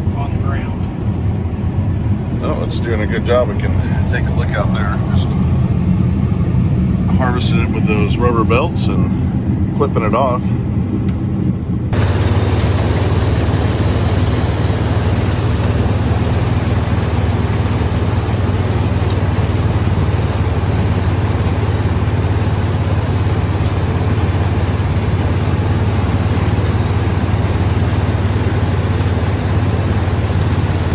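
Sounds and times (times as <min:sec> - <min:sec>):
combine harvester running: 0:00.0 - 0:30.9.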